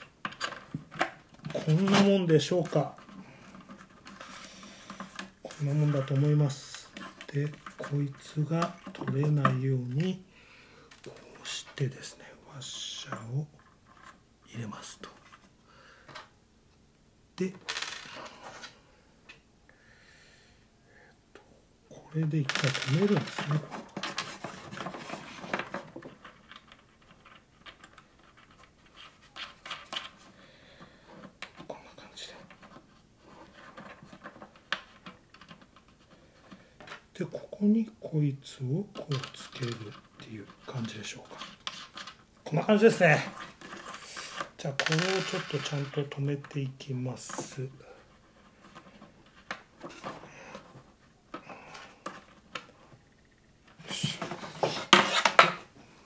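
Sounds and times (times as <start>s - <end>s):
light clicks and scratches: 0.0s - 10.2s, 10.9s - 15.5s, 22.2s - 37.6s, 38.6s - 55.7s.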